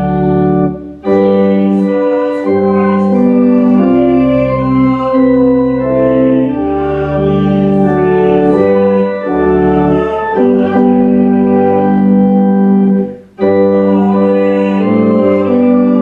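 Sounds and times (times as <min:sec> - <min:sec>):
organ playing a hymn: 0:00.0 - 0:16.0.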